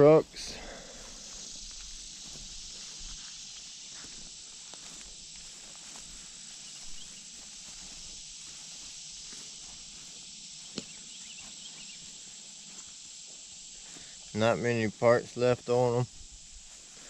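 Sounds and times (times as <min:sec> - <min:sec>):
high-pitched outdoor hiss: 0:00.0 - 0:17.0
footsteps walking: 0:00.2 - 0:14.3, 0:16.1 - 0:17.0.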